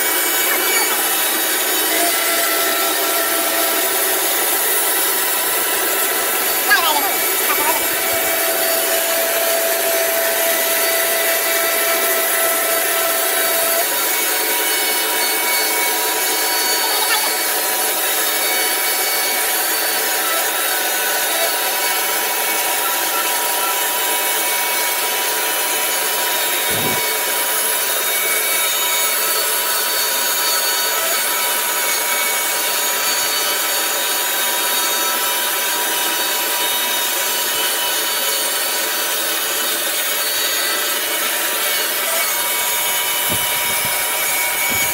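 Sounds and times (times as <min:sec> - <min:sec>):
band saw cutting wood: 0:00.0 - 0:44.9.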